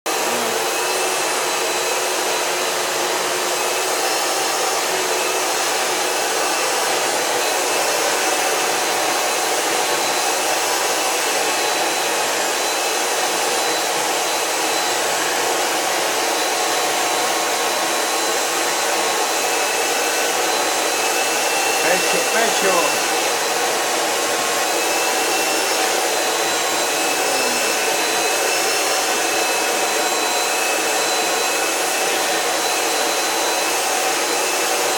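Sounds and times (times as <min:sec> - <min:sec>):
vacuum cleaner whining: 0:00.1 - 0:34.9.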